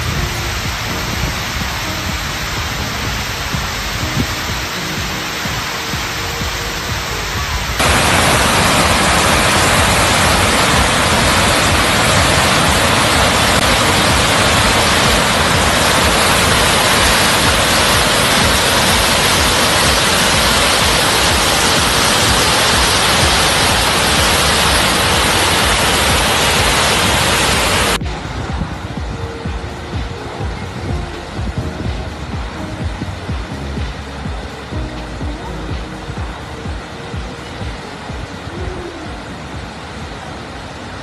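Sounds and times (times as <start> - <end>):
rushing floodwater torrent: 0.0 - 41.0.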